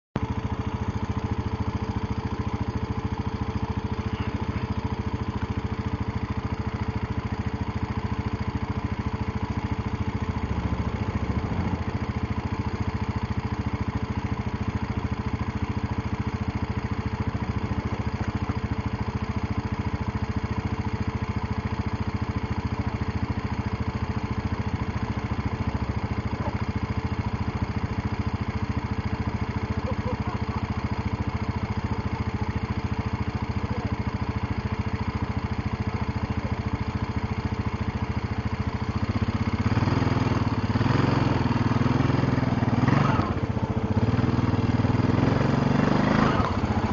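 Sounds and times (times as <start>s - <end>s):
vehicle engine idling: 0.2s - 46.9s.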